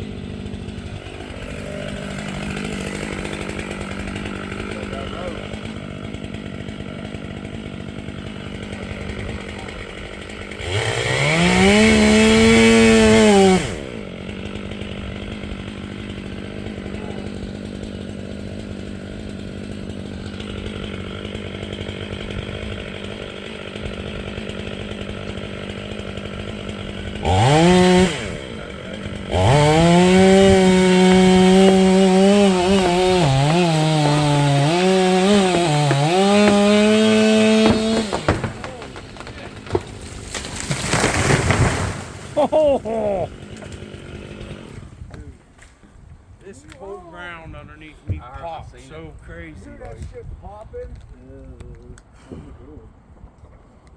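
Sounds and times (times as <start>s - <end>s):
chainsaw revving and cutting wood: 0.0s - 45.8s.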